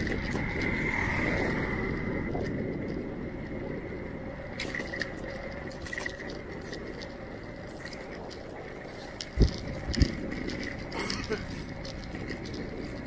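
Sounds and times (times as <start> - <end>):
motor scooter passing: 0.0 - 13.0
street background: 0.0 - 13.0.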